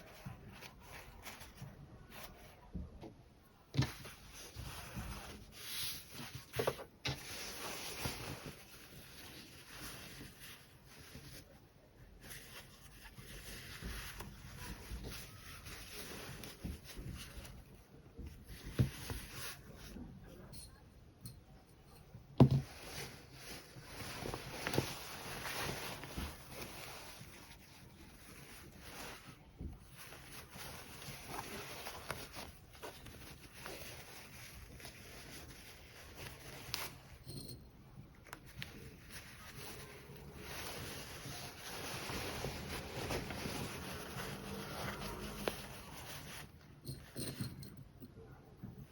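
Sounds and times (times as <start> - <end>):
fabric rustling by hand: 0.0 - 48.9.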